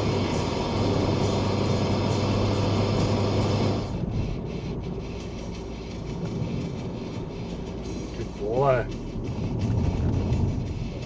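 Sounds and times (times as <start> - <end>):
low engine drone: 0.0 - 11.0
road and wind noise: 0.0 - 11.0.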